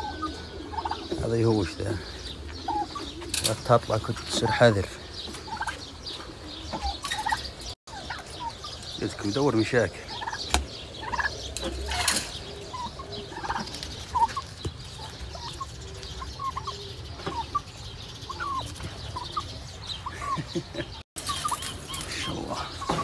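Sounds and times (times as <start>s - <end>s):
turkeys clucking and chirping: 0.0s - 23.0s.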